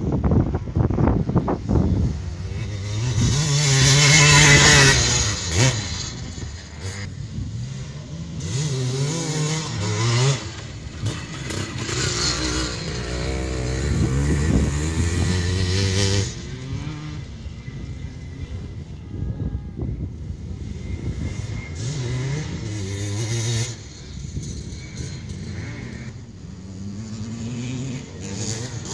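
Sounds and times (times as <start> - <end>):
motorcycle engine revving: 0.0 - 19.0, 20.0 - 28.9.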